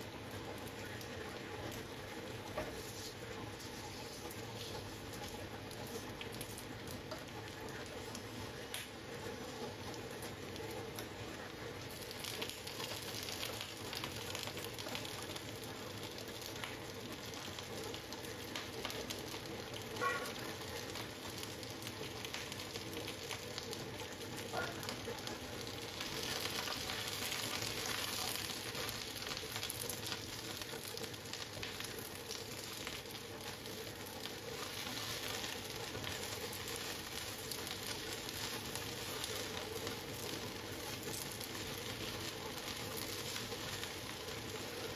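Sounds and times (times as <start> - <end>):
food sizzling in a frying pan: 0.0 - 44.9.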